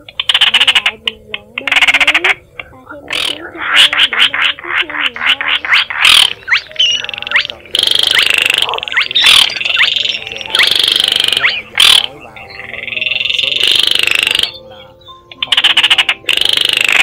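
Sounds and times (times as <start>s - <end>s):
bird rasping rattles: 0.0s - 12.1s, 13.0s - 14.6s, 15.3s - 17.0s
bird dry clicking calls: 0.0s - 12.2s, 12.9s - 14.6s, 15.3s - 17.0s
bird sweeping notes: 1.6s - 17.0s.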